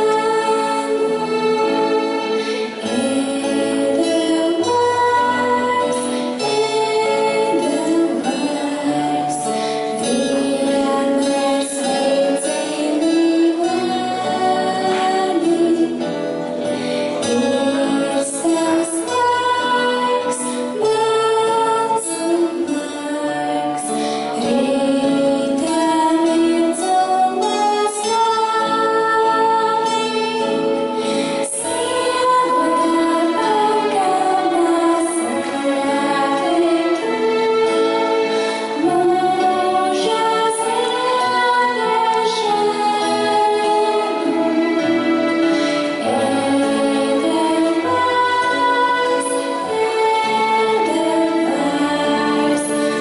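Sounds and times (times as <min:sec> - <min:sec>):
girl singing into microphone: 0:00.0 - 0:02.1, 0:02.7 - 0:53.0.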